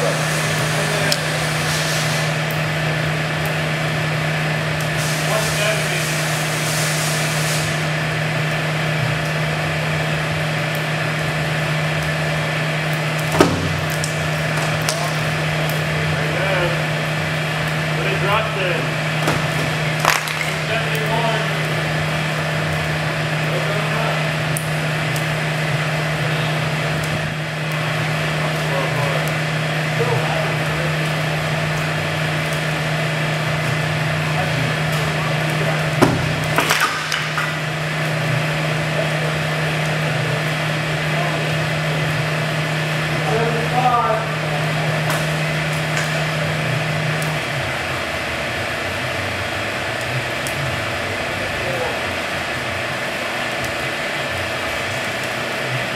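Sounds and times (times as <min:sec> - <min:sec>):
hydraulic machine drone: 0:00.0 - 0:55.9.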